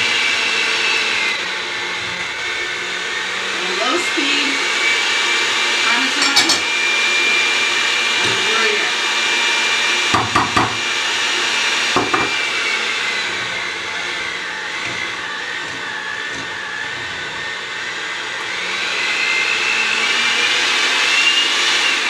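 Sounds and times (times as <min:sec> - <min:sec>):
electric hand mixer whining: 0:00.0 - 0:22.0.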